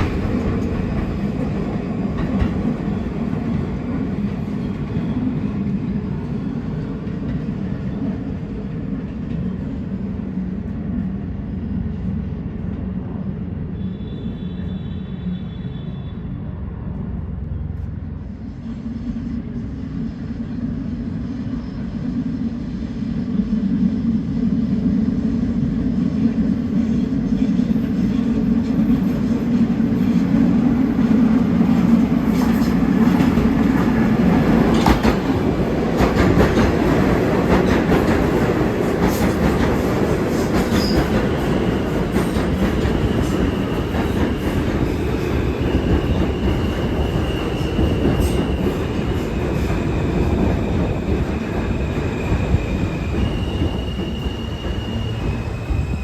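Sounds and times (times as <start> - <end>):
subway train rumble and hum: 0.0 - 56.0.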